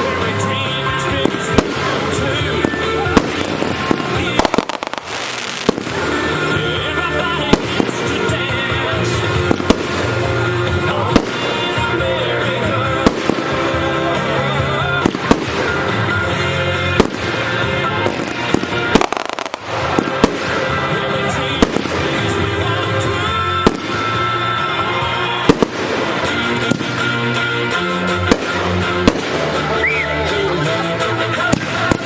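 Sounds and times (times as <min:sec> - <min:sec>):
fireworks bursting: 0:00.0 - 0:32.0
music with pitched backing: 0:00.0 - 0:32.0.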